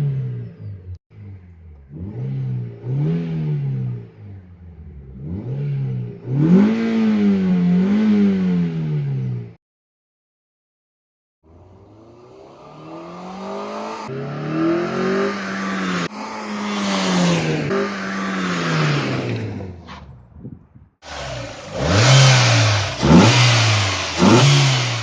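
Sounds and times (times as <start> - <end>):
car engine revving: 0.0 - 9.6, 11.5 - 25.0.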